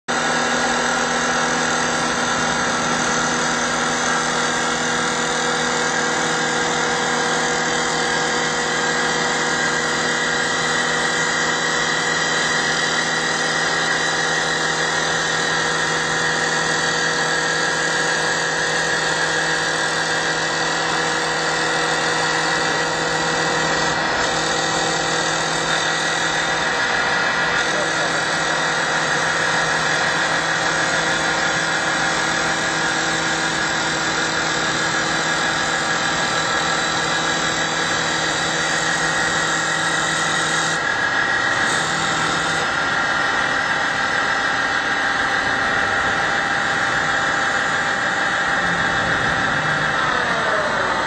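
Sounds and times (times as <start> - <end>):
wood lathe humming: 0.1 - 51.0.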